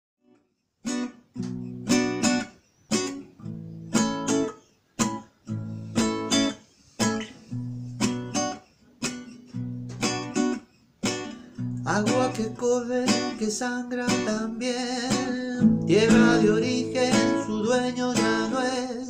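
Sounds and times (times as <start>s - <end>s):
acoustic guitar strumming: 0.9s - 19.0s.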